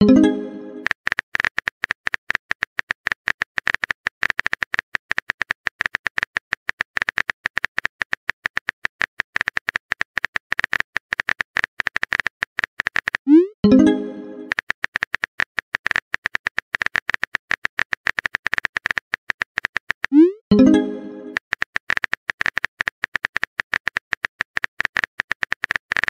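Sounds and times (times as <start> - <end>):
keyboard typing clicks: 0.0 - 26.0.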